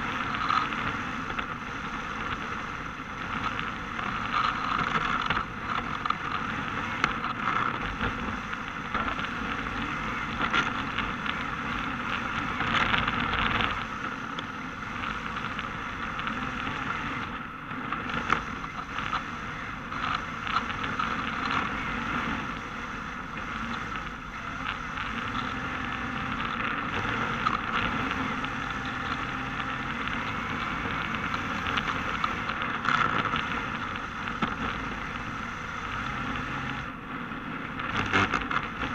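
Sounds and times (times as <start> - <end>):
toy car drivetrain and tyres rushing: 0.0 - 38.9.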